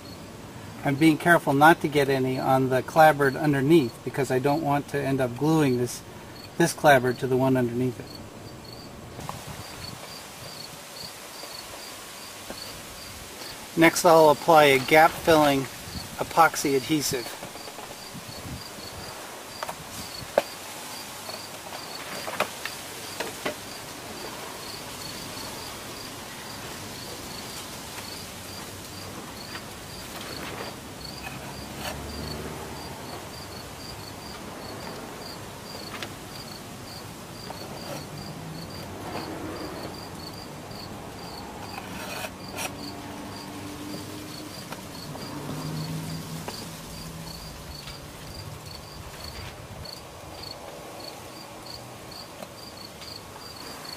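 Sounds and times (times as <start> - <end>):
insect chirping: 0.0 - 0.3, 5.2 - 53.9.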